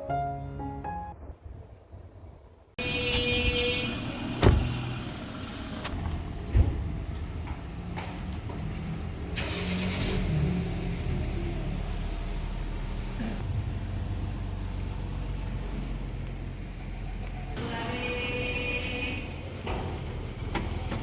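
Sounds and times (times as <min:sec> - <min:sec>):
motor vehicle noise: 0:01.3 - 0:21.0.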